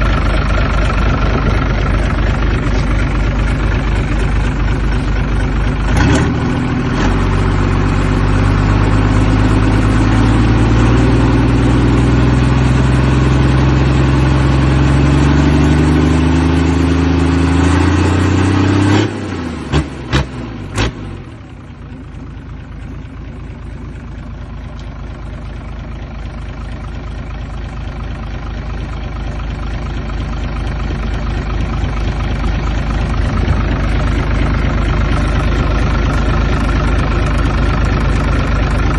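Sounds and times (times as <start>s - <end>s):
diesel engine revving: 0.0s - 22.2s, 29.7s - 38.9s.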